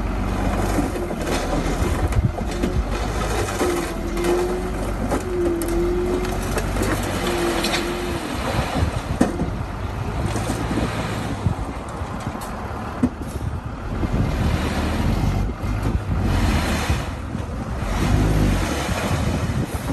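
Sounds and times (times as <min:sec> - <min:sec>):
bulldozer diesel engine running: 0:00.0 - 0:19.9.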